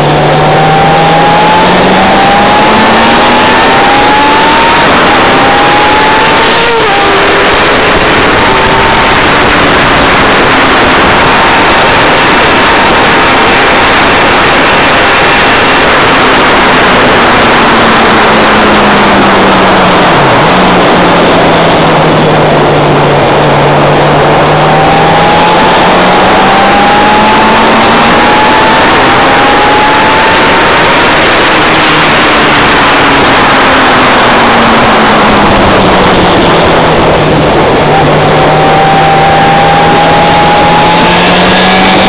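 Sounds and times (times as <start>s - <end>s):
motorcycle engine revving: 0.0s - 42.0s
wind rush on microphone: 0.0s - 42.0s.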